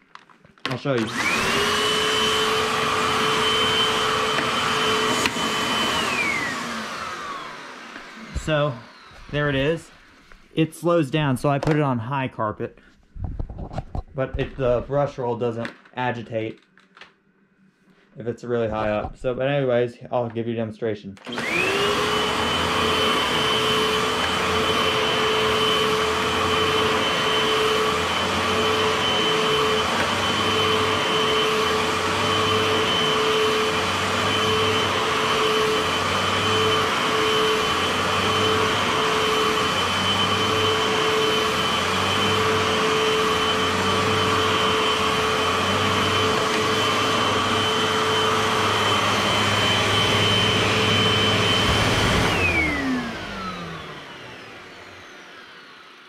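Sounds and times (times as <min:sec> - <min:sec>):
vacuum cleaner running on carpet: 0:00.8 - 0:11.3, 0:21.2 - 0:56.0.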